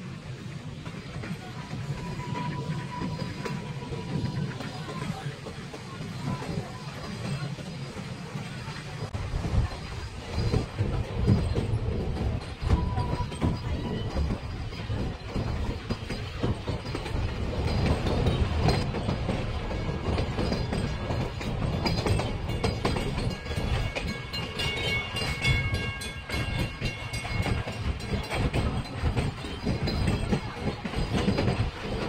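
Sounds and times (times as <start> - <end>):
steam train rumbling: 0.0 - 32.0
wheels clacking over rails: 0.2 - 32.0.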